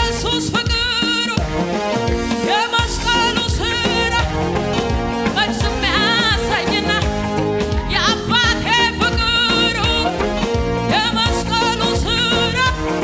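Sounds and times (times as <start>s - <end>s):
woman singing: 0.0s - 1.6s, 2.4s - 13.0s
electronic keyboard: 0.0s - 13.0s
steady beat: 0.2s - 13.0s.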